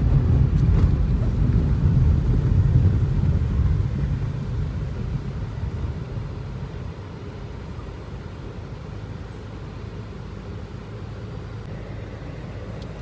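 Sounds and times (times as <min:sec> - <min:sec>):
vehicle driving on road: 0:00.0 - 0:13.0.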